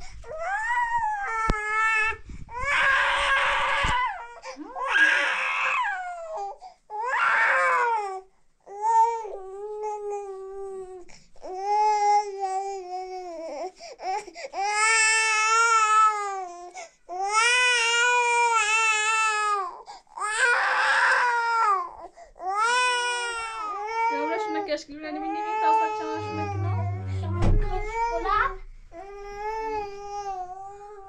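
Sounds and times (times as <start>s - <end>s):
infant crying: 0.3s - 16.4s, 17.2s - 27.2s.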